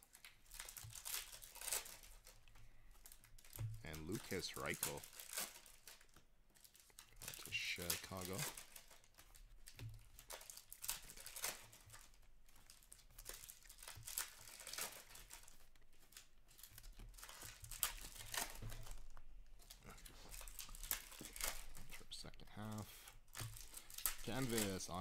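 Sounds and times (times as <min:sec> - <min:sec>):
card pack wrappers crinkling: 0:00.0 - 0:25.0
cards rustling: 0:00.0 - 0:25.0.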